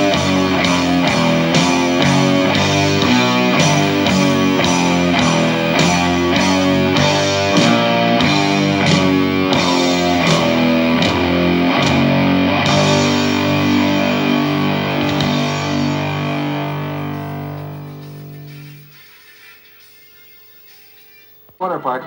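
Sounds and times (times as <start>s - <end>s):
rock music distorted electric guitar: 0.0s - 22.0s.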